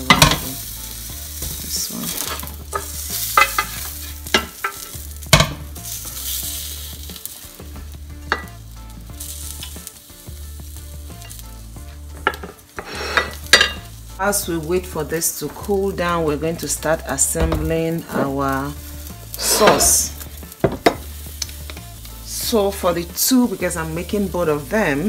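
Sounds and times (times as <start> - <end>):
food sizzling on a grill: 0.0 - 25.0.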